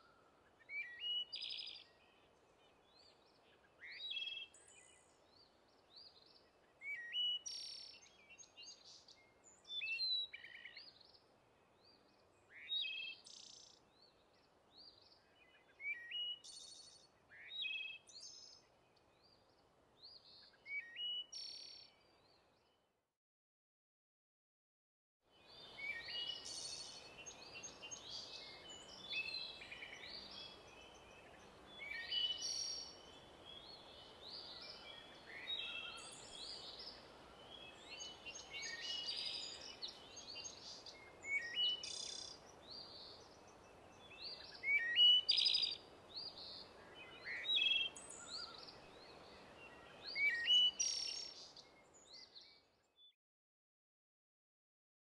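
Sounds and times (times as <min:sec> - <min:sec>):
faint steady hiss: 0:00.0 - 0:22.4, 0:25.3 - 0:52.4
songbirds singing and calling: 0:00.0 - 0:22.8, 0:25.4 - 0:53.2.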